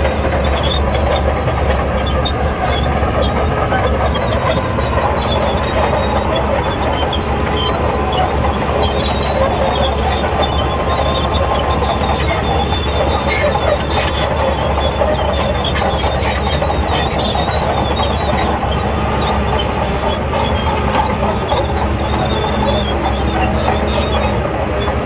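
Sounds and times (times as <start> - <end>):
diesel engine running: 0.0 - 25.0
steel tracks clanking: 0.0 - 25.0.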